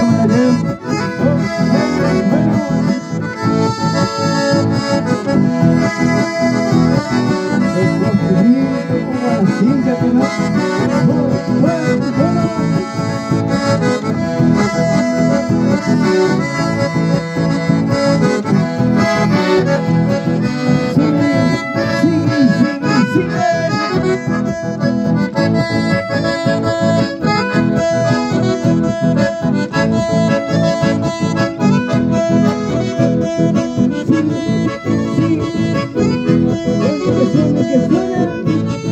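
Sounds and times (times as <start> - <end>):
acoustic guitar strumming: 0.0 - 38.9
button accordions playing: 0.0 - 38.9.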